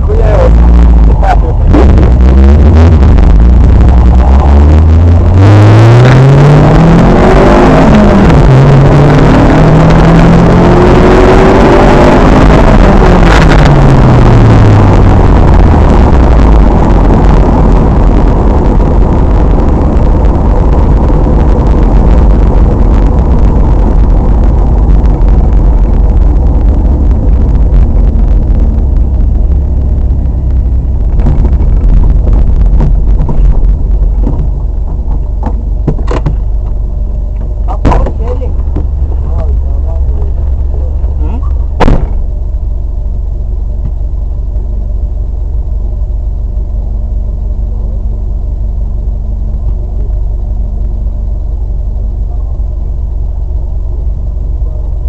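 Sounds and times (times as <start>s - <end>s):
car engine accelerating hard: 0.0s - 55.0s
road and wind noise: 0.0s - 55.0s.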